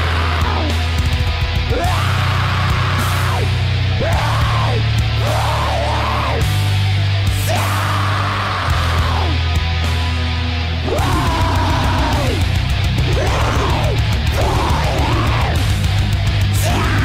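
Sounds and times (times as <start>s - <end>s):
heavy metal song: 0.0s - 17.0s.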